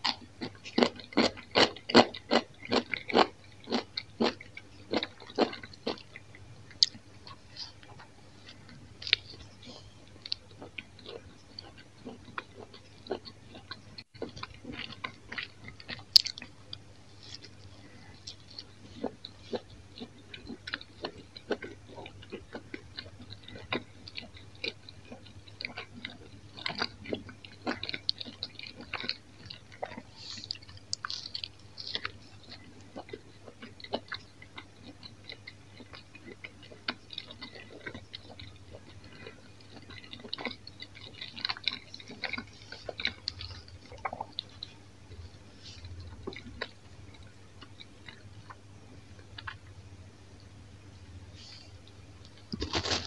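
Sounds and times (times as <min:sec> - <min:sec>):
person chewing pizza: 0:00.0 - 0:53.0.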